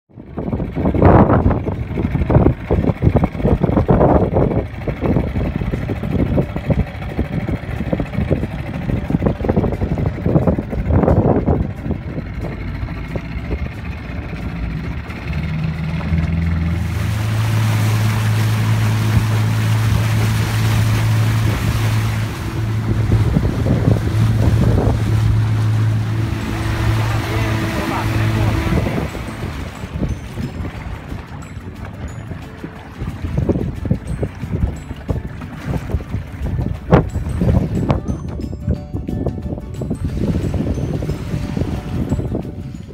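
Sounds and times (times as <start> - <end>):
motorboat engine: 0.1 - 42.9
water rushing along hull: 0.1 - 42.9
wind buffeting microphone: 0.1 - 42.9.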